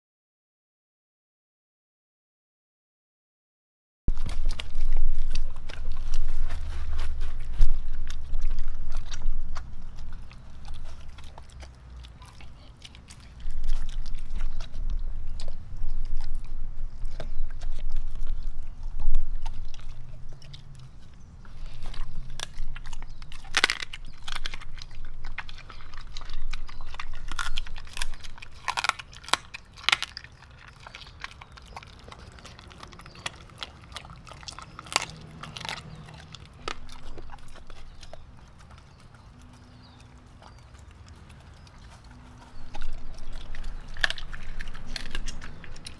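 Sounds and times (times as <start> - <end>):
dog chewing wet food: 4.1 - 45.9.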